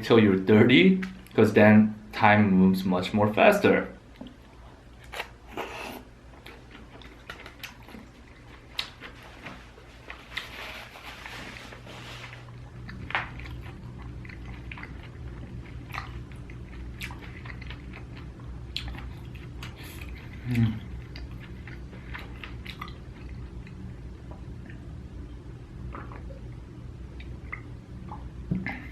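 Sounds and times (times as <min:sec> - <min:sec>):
person chewing food: 0:04.1 - 0:25.0, 0:25.8 - 0:28.9.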